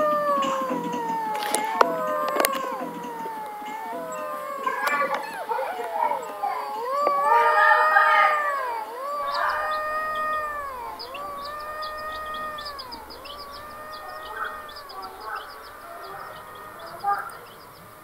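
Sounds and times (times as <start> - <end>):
long animal calls: 0.0 - 18.0.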